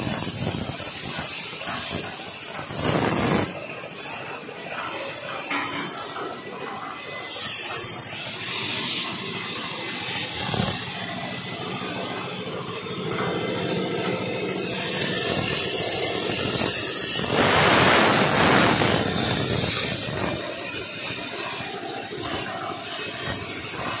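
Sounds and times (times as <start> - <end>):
plasma cutter torch hissing: 0.0 - 24.0.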